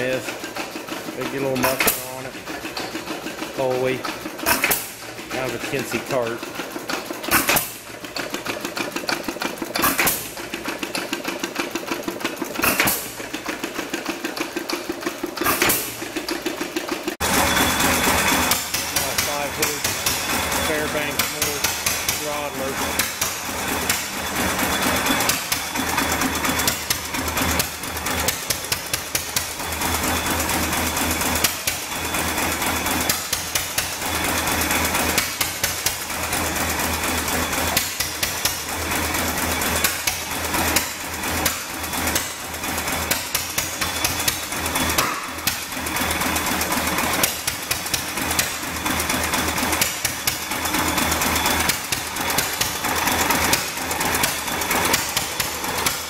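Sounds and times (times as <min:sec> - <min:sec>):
stationary gas engine clatter: 0:00.0 - 0:56.0.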